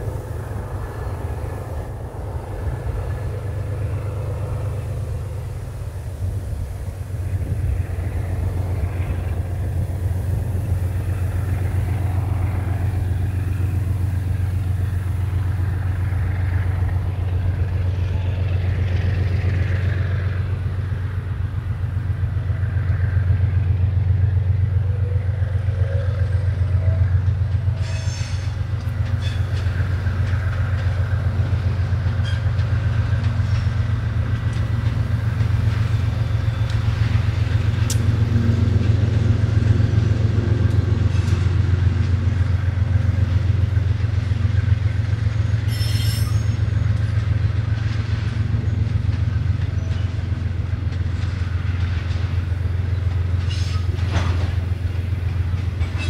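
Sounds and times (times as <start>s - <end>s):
train clicks: 0.0s - 25.1s, 26.1s - 56.0s
locomotive engine drone: 0.0s - 56.0s.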